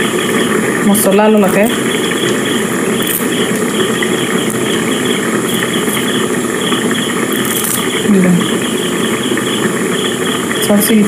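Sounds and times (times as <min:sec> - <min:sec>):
faint high pulsing: 0:00.0 - 0:11.0
low mechanical hum: 0:00.0 - 0:11.0.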